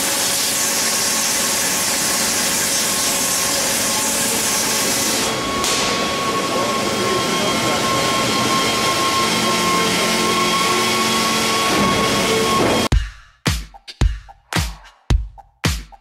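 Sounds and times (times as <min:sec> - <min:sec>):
machine hiss and high whine: 0:00.0 - 0:12.9.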